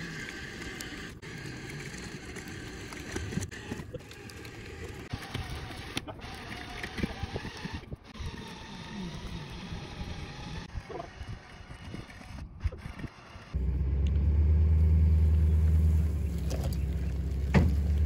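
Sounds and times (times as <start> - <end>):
winch motor running: 0.0 - 18.0.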